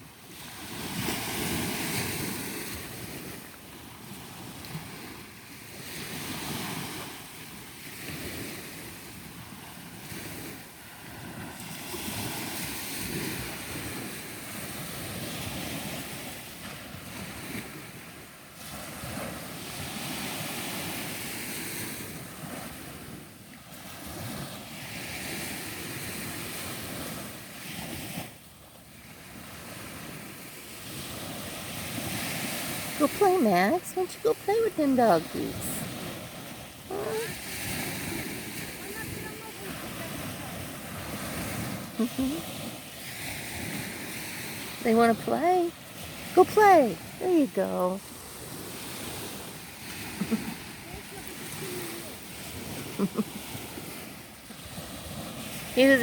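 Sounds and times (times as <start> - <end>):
ocean surf washing onto beach: 0.0 - 56.0.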